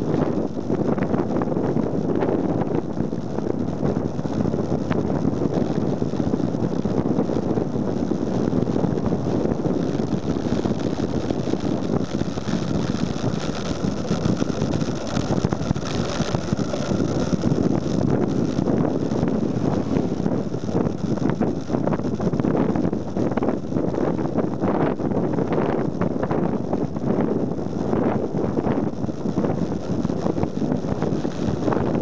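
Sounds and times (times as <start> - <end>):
bicycle tyres on asphalt: 0.0 - 32.0
faint high whine: 0.0 - 32.0
wind rushing over microphone: 0.0 - 32.0.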